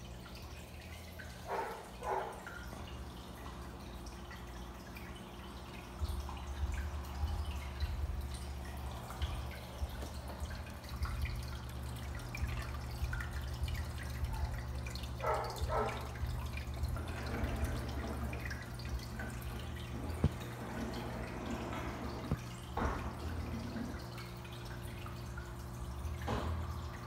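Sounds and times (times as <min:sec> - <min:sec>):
water dripping and bubbling: 0:00.0 - 0:27.0
water gurgles: 0:00.0 - 0:27.0.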